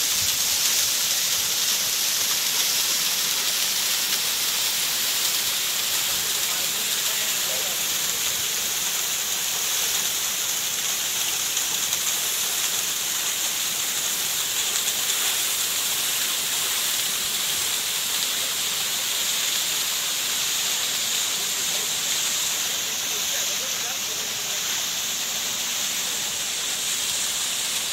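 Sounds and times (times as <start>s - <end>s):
waterfall hiss: 0.0s - 27.9s.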